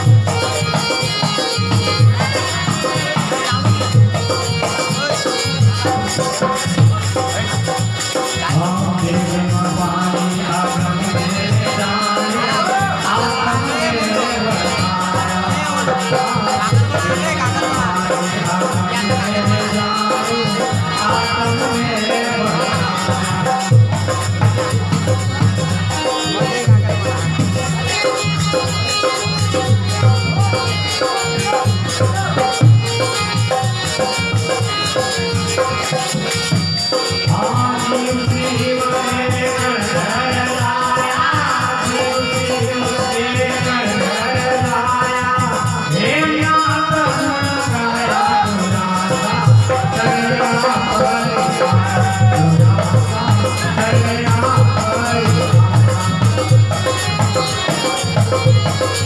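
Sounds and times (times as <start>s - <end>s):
folk music ensemble: 0.0s - 59.0s
hand drums fast rhythm: 0.0s - 59.0s
man singing: 0.0s - 59.0s.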